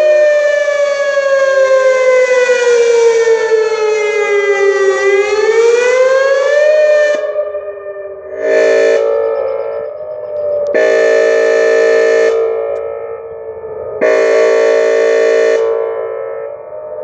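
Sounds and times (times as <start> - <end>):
siren horn blasts echoing: 0.0 - 17.0.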